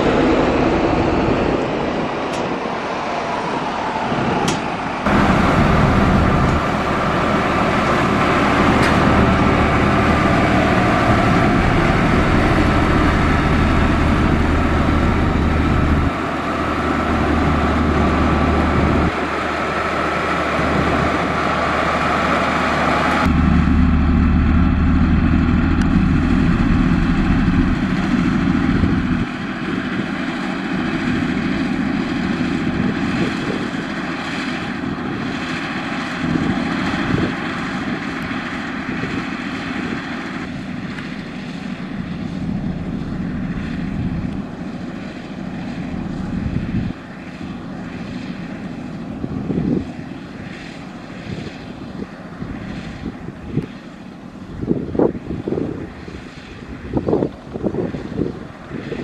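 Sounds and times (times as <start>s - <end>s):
deep engine rumble: 0.0s - 59.0s
heavy diesel engines droning: 0.0s - 59.0s.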